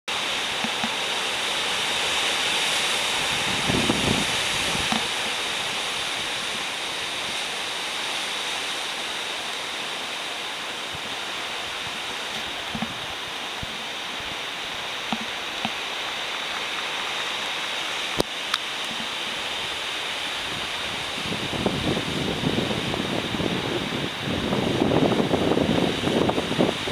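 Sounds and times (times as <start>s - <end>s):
waves breaking: 0.1s - 26.9s.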